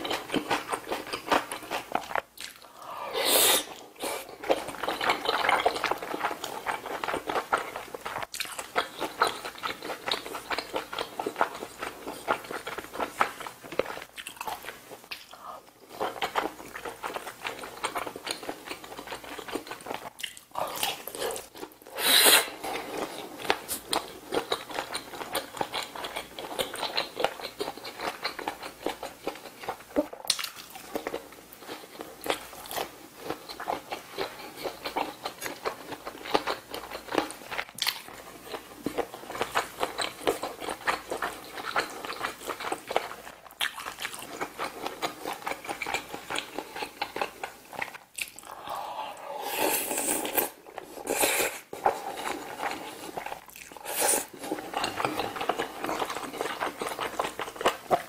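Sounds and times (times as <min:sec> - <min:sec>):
wet chewing and mouth smacks: 0:00.0 - 0:02.8, 0:04.2 - 0:21.8, 0:23.0 - 0:48.8, 0:51.7 - 0:58.0.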